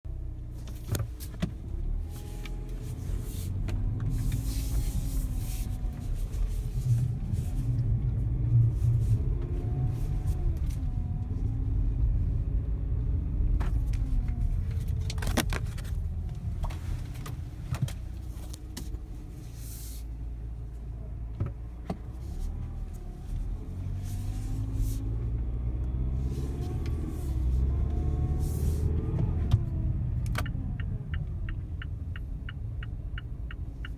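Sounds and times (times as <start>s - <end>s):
road and drivetrain rumble: 0.0s - 33.9s.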